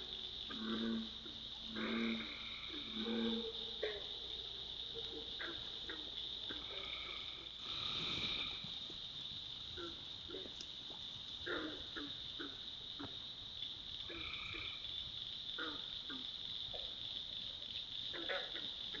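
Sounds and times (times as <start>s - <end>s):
frogs trilling: 0.0s - 19.0s.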